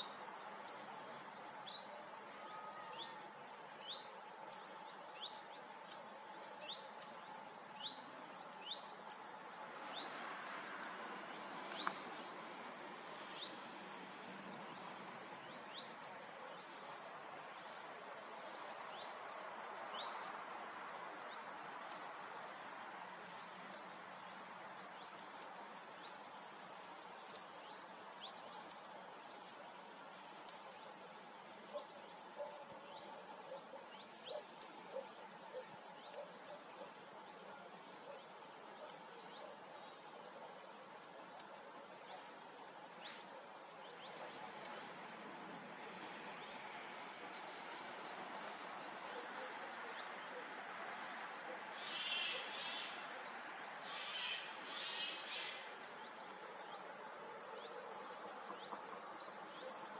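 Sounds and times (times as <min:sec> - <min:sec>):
bird chirping: 0:00.0 - 0:03.2, 0:03.8 - 0:12.1, 0:13.2 - 0:17.0, 0:19.9 - 0:22.2, 0:22.8 - 0:53.1, 0:53.9 - 0:56.9
steady background hiss: 0:00.0 - 0:59.9.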